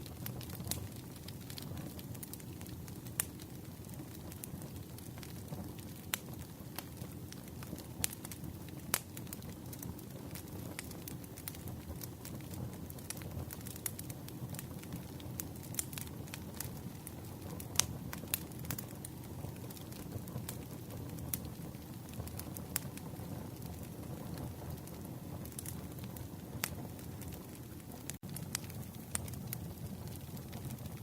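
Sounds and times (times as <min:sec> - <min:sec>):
campfire crackling: 0:00.0 - 0:31.0
low rumble of burning wood: 0:00.0 - 0:31.0.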